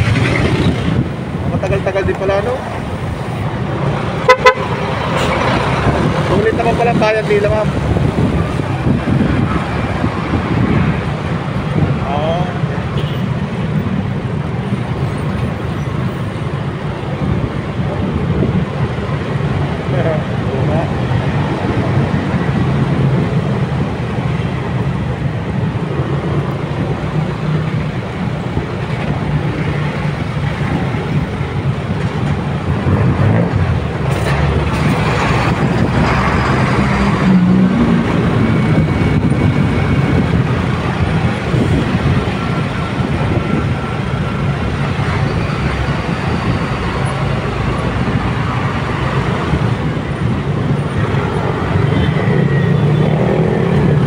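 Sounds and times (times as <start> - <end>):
heavy vehicles passing: 0.0 - 54.0
motorcycle engine and road noise: 0.0 - 54.0.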